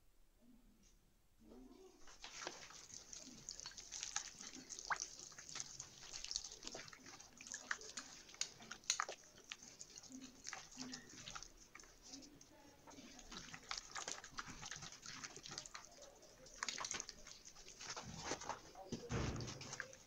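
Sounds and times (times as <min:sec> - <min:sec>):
hand squelching paste in bowl: 0:01.6 - 0:20.0.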